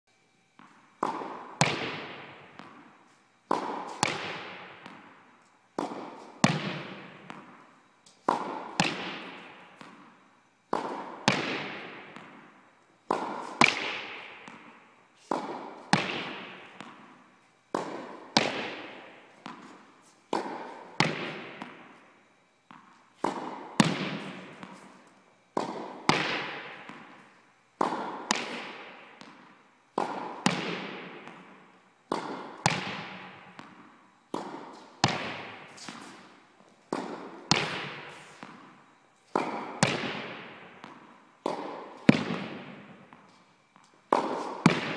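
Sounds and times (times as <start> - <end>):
racket striking tennis ball: 0.6 - 44.9
tennis ball bouncing: 0.6 - 44.9.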